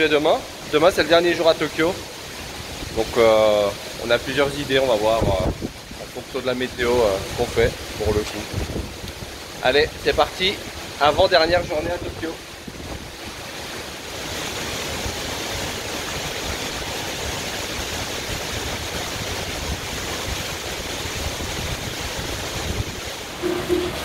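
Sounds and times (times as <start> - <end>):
heavy rain on pavement: 0.0 - 24.0.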